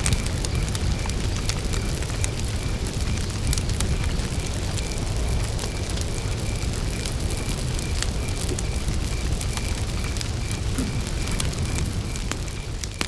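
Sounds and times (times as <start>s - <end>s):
campfire low rush: 0.0s - 13.0s
cricket chirping: 0.0s - 13.0s
wood crackling: 0.0s - 13.0s.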